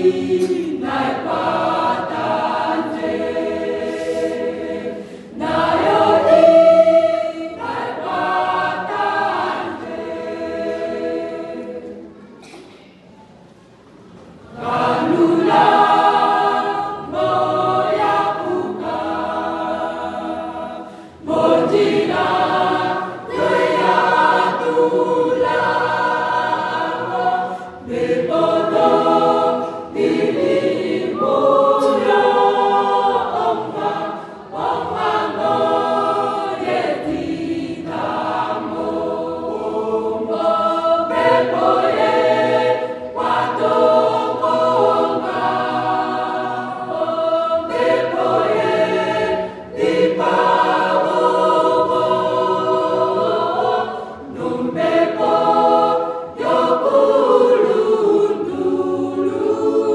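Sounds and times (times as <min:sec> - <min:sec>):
mixed choir singing in harmony: 0:00.0 - 0:12.6, 0:13.7 - 0:59.9.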